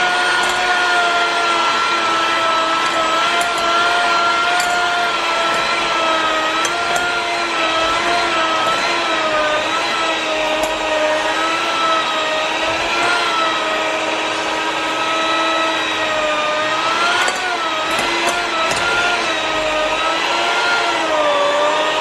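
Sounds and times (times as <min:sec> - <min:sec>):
electric mixer kneading dough: 0:00.0 - 0:22.0.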